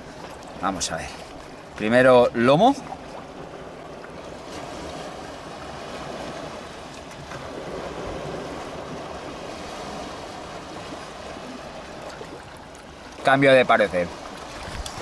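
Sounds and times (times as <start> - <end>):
sea waves washing ashore: 0.0 - 15.0.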